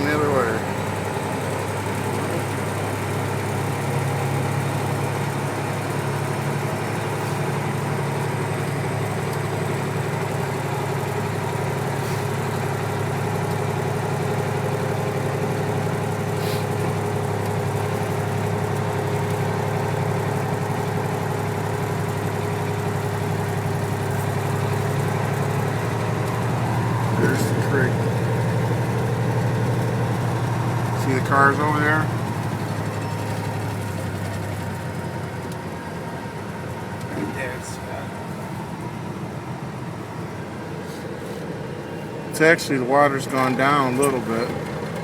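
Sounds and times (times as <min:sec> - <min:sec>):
diesel truck engine droning: 0:00.0 - 0:45.0.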